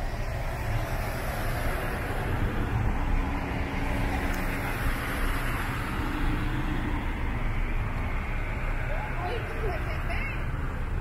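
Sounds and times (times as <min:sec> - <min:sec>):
oncoming cars passing: 0:00.0 - 0:11.0
traffic rumble: 0:00.0 - 0:11.0.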